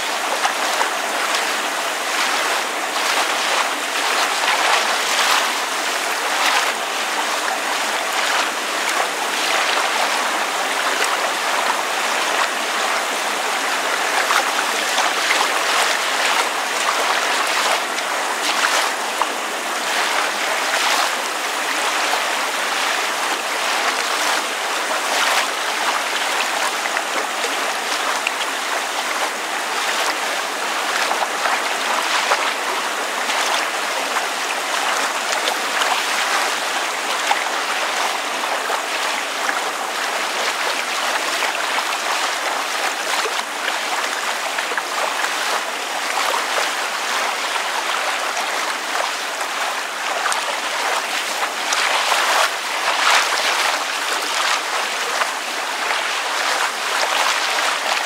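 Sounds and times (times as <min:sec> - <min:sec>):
rain falling: 0:00.0 - 0:58.0
water lapping and splashing: 0:00.0 - 0:58.0.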